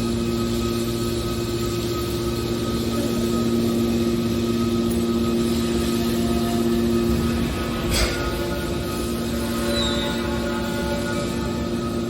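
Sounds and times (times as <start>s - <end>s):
motor and hydraulic pump humming: 0.0s - 12.0s.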